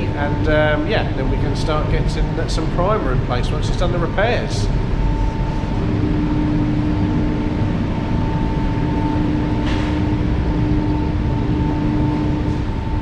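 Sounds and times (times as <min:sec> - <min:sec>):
workshop machinery drone: 0:00.0 - 0:13.0.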